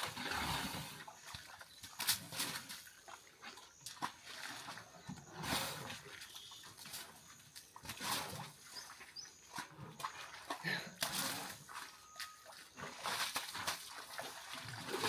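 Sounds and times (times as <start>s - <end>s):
hippopotamuses wallowing in mud: 0.0s - 15.0s.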